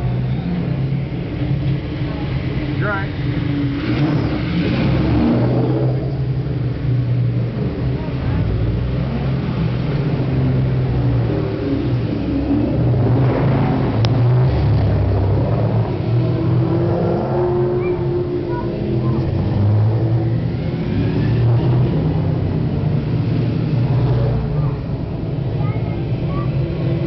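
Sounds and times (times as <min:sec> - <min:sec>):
sports car engines revving: 0:00.0 - 0:27.0.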